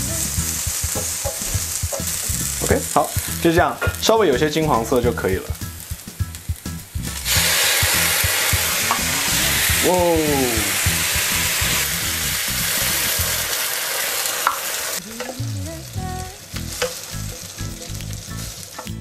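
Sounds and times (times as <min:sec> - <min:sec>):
background music: 0:00.0 - 0:13.5, 0:15.0 - 0:19.0
loud sizzling in a hot pan: 0:00.0 - 0:19.0.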